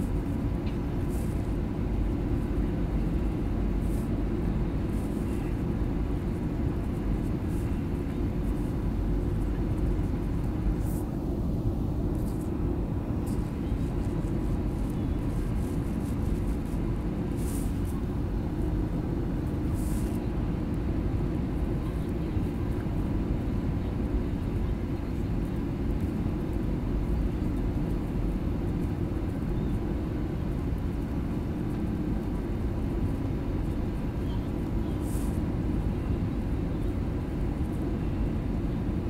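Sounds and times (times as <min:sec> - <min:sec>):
faint steady hum: 0:00.0 - 0:39.0
jet engine cabin rumble: 0:00.0 - 0:39.0.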